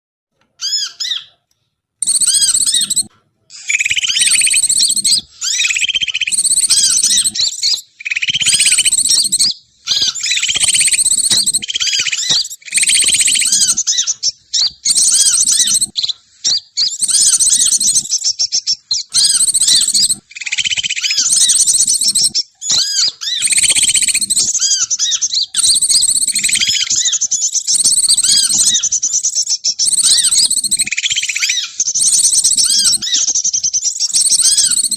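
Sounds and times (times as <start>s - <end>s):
birds chirping and chattering: 0.6s - 34.9s.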